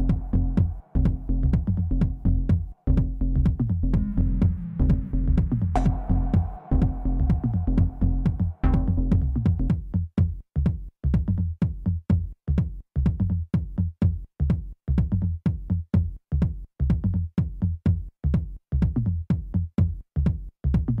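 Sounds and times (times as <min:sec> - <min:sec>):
electronic music with drum beat: 0:00.0 - 0:21.0.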